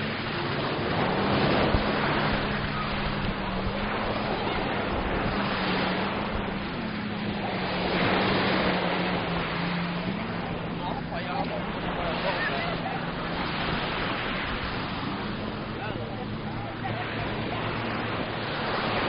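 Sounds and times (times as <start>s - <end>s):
sea waves washing on beach: 0.0s - 19.0s.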